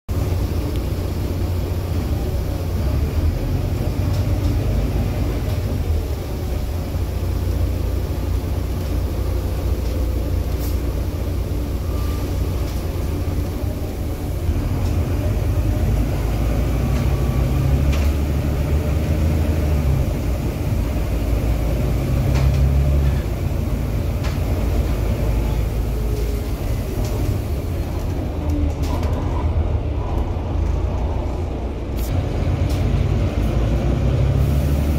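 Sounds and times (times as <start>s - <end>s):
bus diesel engine droning: 0.1s - 34.9s.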